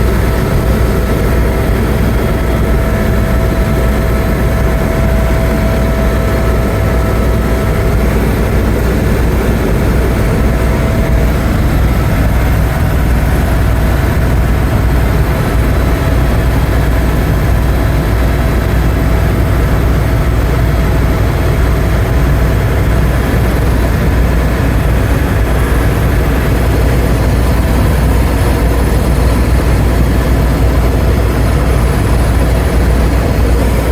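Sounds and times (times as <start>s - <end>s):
helicopter rotor drone: 0.0s - 33.9s.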